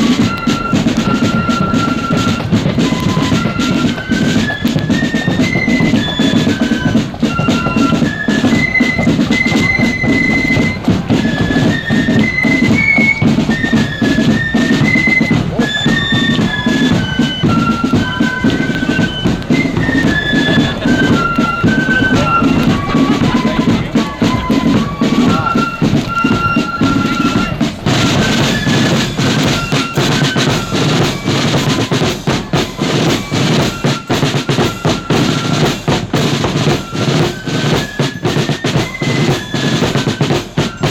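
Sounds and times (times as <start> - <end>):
flute melody: 0.0 - 40.9
snare drums: 0.0 - 40.9.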